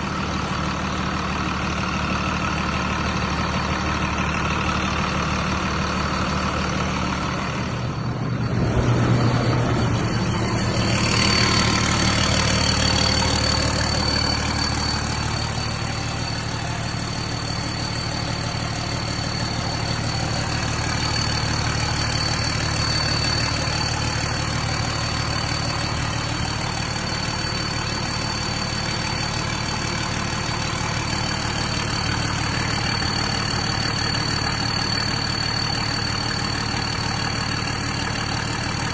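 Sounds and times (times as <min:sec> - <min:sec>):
diesel engine running: 0:00.0 - 0:38.9
thin high whine: 0:05.0 - 0:38.9.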